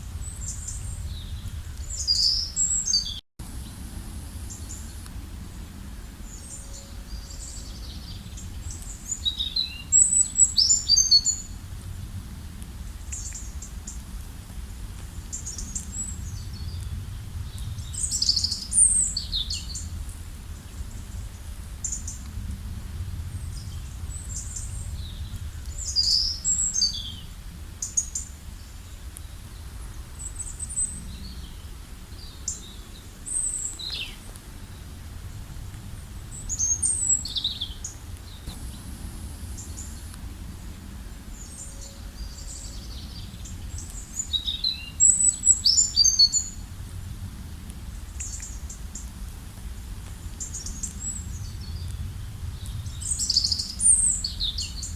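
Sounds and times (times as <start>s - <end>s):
songbirds chirping: 0.0s - 22.4s, 23.3s - 46.7s
low background noise: 0.0s - 54.9s.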